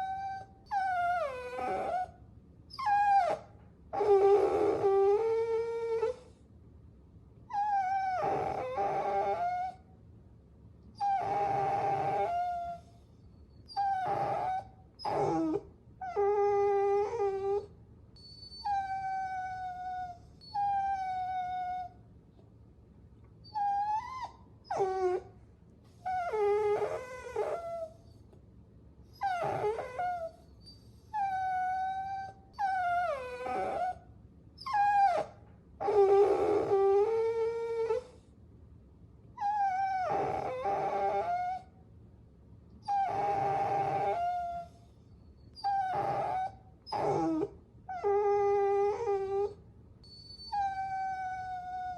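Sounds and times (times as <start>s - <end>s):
puppies whining: 0.0s - 6.4s, 7.5s - 9.8s, 11.0s - 22.0s, 23.4s - 25.3s, 25.9s - 28.3s, 29.1s - 34.0s, 34.6s - 38.2s, 39.4s - 41.7s, 42.8s - 51.9s.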